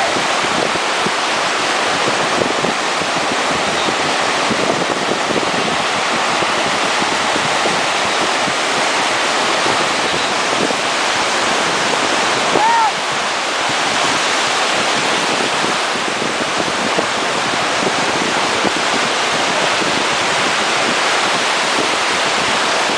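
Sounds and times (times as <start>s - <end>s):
water rushing: 0.0s - 22.9s
wind: 0.0s - 22.9s.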